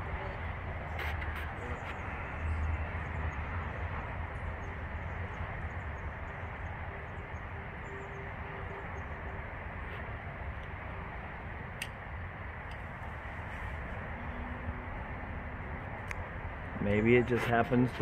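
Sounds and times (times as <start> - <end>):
freeway traffic rumble: 0.0 - 18.0.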